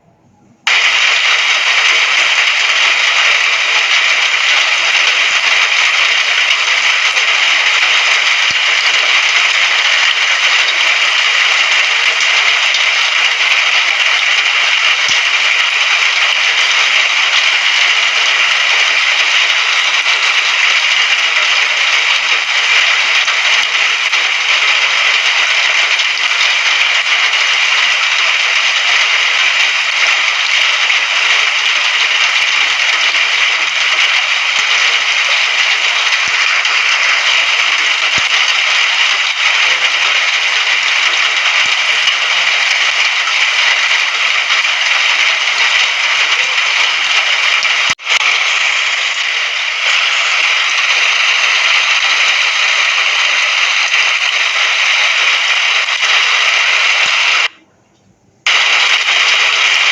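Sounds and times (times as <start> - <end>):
rain hissing: 0.6 - 57.6, 58.4 - 59.9.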